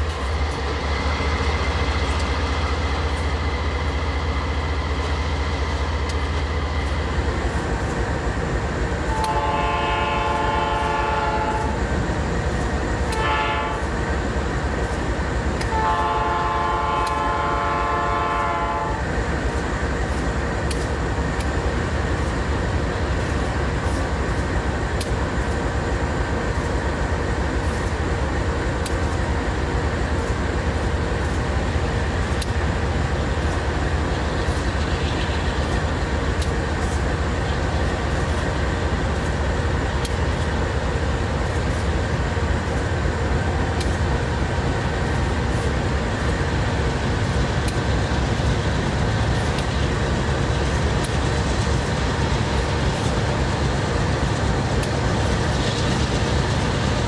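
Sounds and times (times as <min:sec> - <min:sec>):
locomotive engine rumble: 0:00.0 - 0:57.0.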